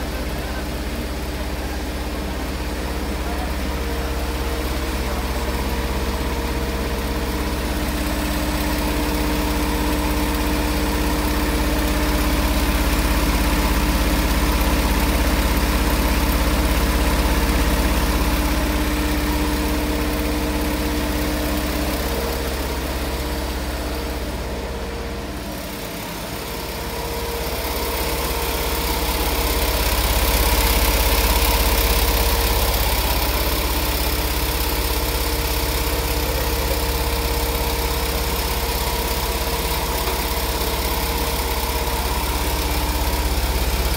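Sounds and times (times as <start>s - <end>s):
quilting machine drone: 0.0s - 43.9s.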